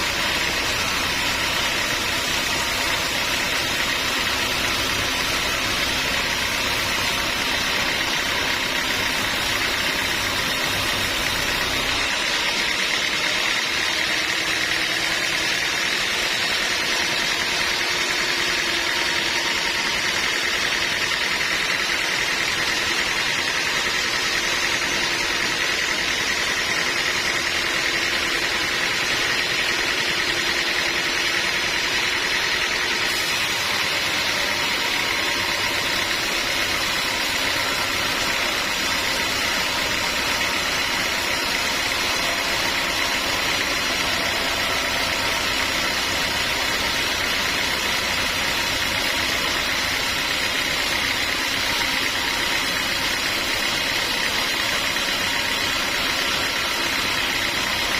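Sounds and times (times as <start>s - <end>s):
sawmill machinery hum: 0.0s - 57.9s
steady high whine: 0.0s - 57.9s.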